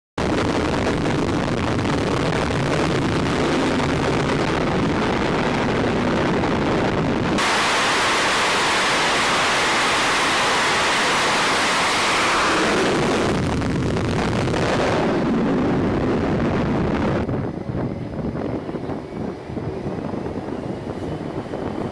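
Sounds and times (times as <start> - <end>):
jet engine roaring: 0.2 - 21.9
low rumble: 0.2 - 21.9
steady wind: 0.2 - 21.9.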